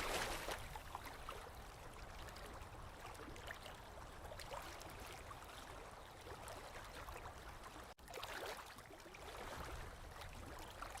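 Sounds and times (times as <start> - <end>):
small waves lapping at shore: 0.0 - 11.0.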